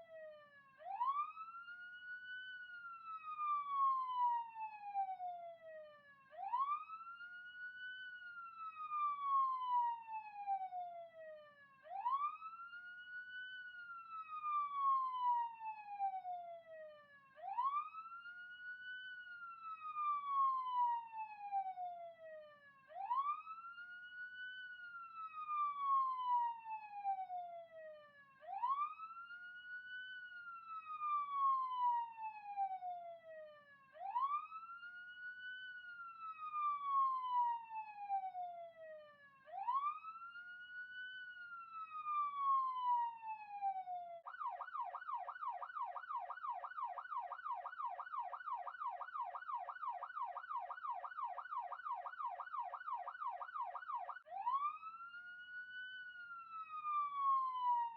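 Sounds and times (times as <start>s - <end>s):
police siren wailing: 0.0s - 57.9s.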